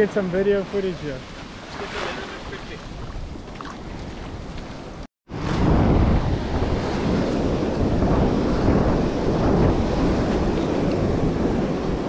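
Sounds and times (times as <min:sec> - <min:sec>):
breaking surf: 0:00.0 - 0:03.0, 0:05.3 - 0:12.0
wind buffeting microphone: 0:00.0 - 0:12.0.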